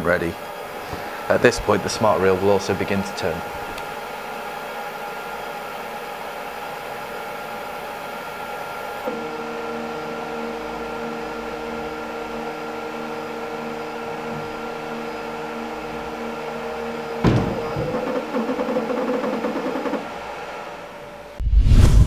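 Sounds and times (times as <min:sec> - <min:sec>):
stepper motor whirring: 0:00.0 - 0:21.4.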